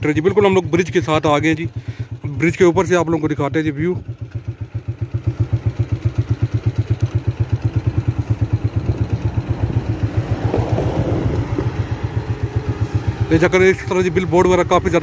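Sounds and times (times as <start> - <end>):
vehicle engine throbbing: 0.0 - 15.0.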